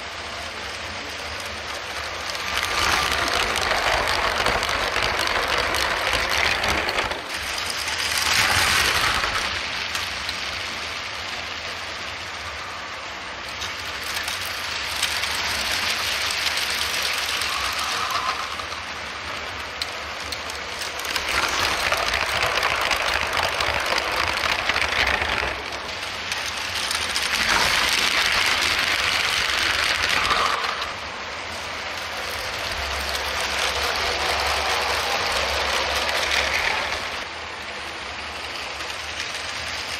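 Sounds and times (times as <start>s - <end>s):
toy trains rattling on plastic track: 0.0s - 39.9s.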